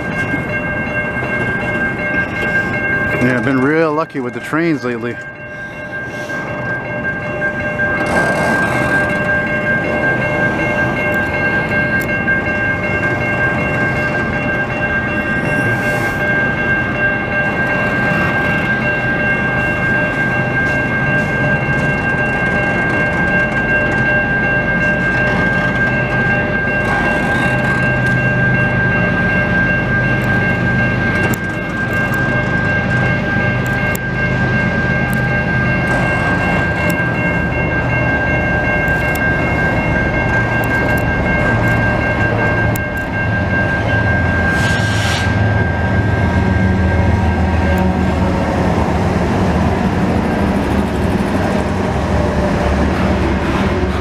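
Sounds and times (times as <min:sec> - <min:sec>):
high ringing tones: 0:00.0 - 0:48.6
freight train rumbling past: 0:00.0 - 0:54.0.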